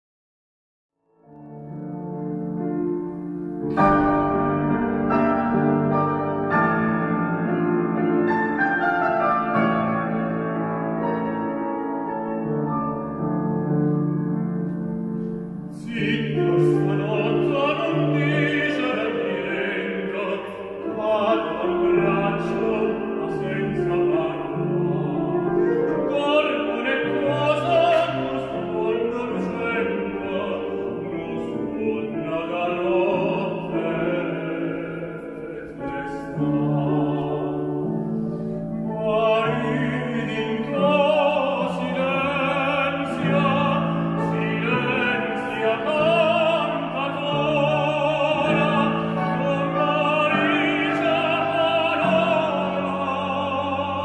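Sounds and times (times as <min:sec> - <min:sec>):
grand piano: 0:01.0 - 0:54.0
operatic tenor singing: 0:01.7 - 0:54.0.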